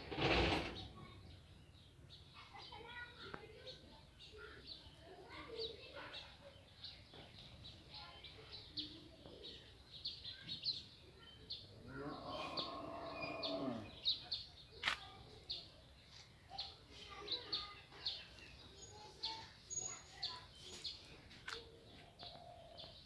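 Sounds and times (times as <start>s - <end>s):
sparrows chirping: 0.0s - 23.0s.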